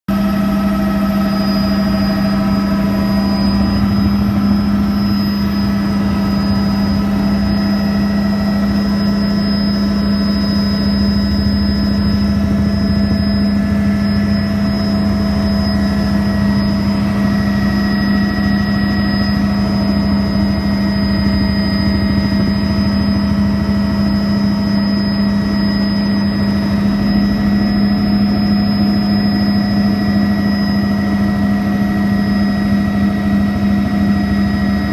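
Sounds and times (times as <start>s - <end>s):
helicopter drone: 0.1s - 34.9s.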